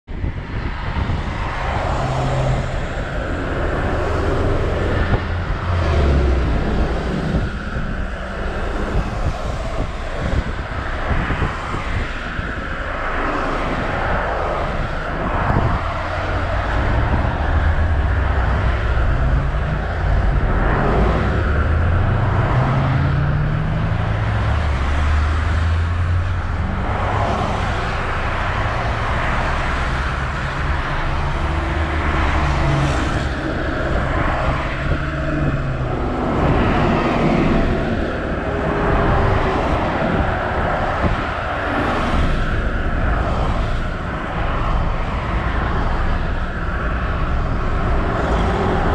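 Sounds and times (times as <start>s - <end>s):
cars driving by: 0.0s - 48.9s.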